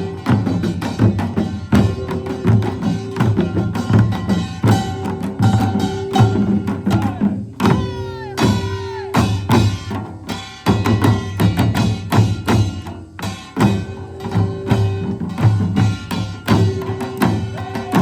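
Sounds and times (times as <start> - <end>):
percussion band with gongs and drums: 0.0 - 18.0.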